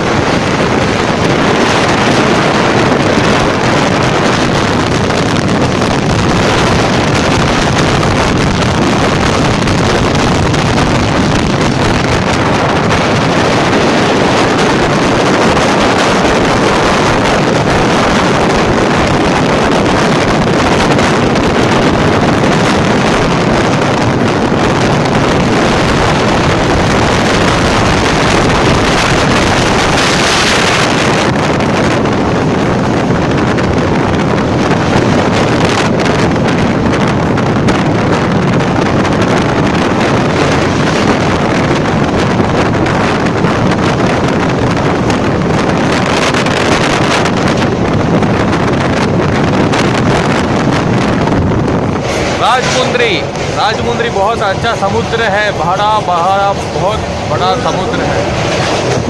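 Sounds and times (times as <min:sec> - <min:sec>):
train wheels rumbling on bridge: 0:00.0 - 0:59.0
wind buffeting microphone: 0:00.0 - 0:59.0.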